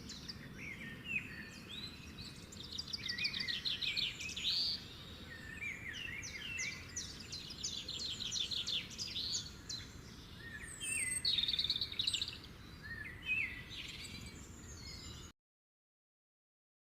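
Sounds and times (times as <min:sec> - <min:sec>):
small birds chirping: 0:00.0 - 0:15.3.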